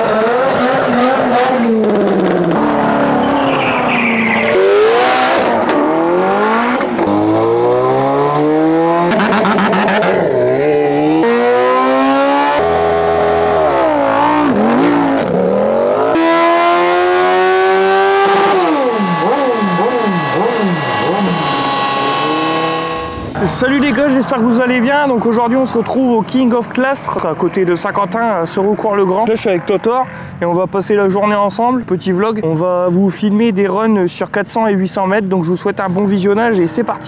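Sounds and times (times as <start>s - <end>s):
engines revving and accelerating: 0.0s - 30.0s.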